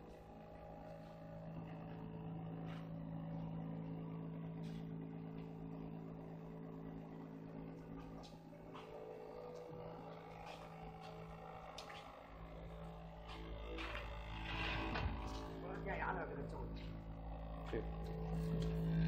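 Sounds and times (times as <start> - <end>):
electric motor humming: 0.0 - 19.0.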